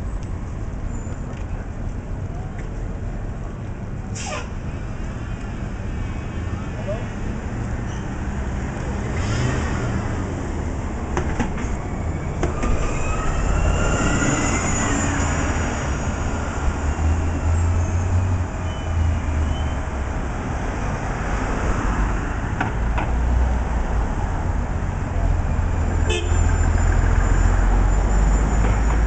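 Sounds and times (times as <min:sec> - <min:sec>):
bus engine rumble: 0:00.0 - 0:29.0
bus passing: 0:00.0 - 0:29.0.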